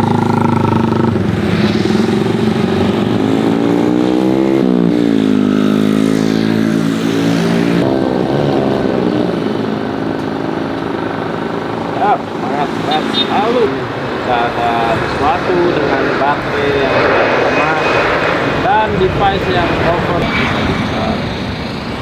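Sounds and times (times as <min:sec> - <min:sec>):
loud engine revving: 0:00.0 - 0:22.0.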